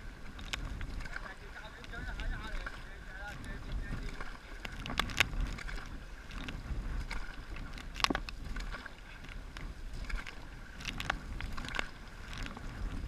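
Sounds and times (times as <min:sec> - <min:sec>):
paddles splashing in water: 0:00.0 - 0:13.0
wind rumble on microphone: 0:00.0 - 0:13.0.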